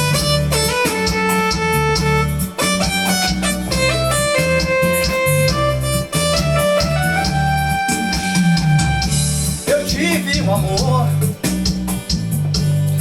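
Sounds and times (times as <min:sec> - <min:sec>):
electronic keyboard instrumental: 0:00.0 - 0:13.0.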